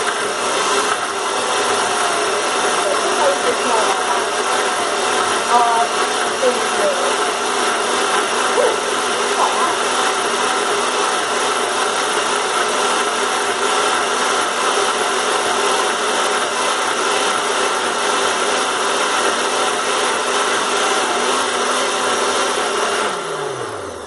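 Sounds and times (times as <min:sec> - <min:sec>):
electric blender running: 0:00.0 - 0:24.0.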